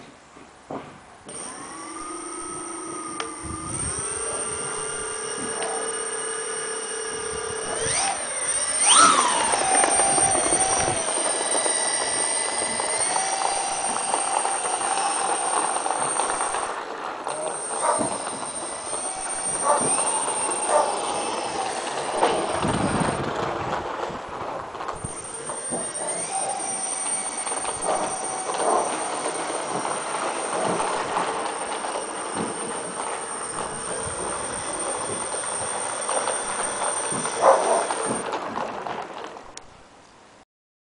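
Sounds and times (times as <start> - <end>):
electric motors and propellers whining: 1.2 - 39.6.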